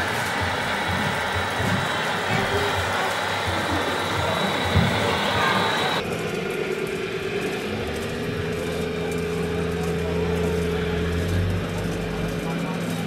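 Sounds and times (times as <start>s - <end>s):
model engine hum: 0.0s - 13.0s.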